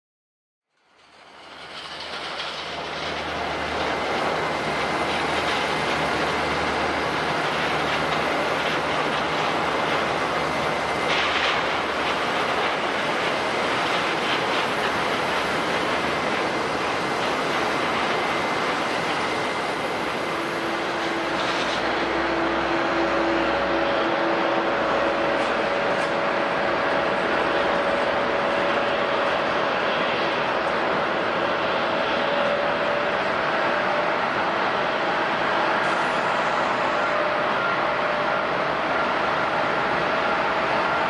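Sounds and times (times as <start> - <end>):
jet engines running: 1.0 - 41.0.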